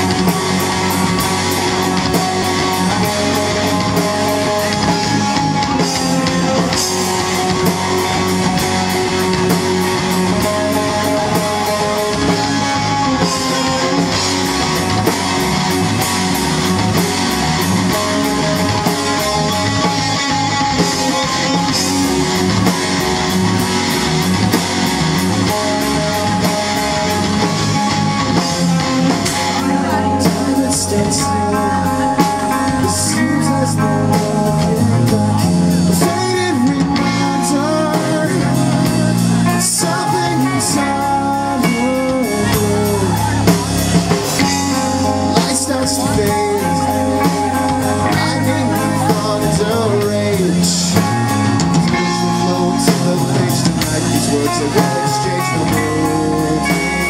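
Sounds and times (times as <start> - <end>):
drum kit beat: 0.0 - 57.0
electric bass: 0.0 - 57.0
electric guitars: 0.0 - 57.0.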